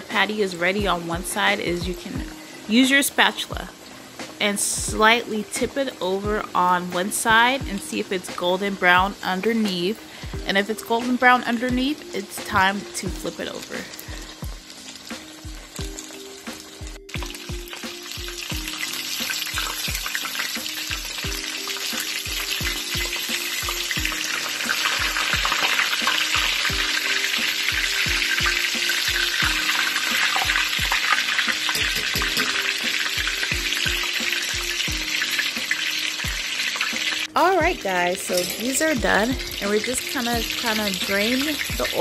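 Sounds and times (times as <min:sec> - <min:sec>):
chicken frying in hot oil: 0:00.0 - 0:42.0
background music with beat: 0:00.8 - 0:42.0.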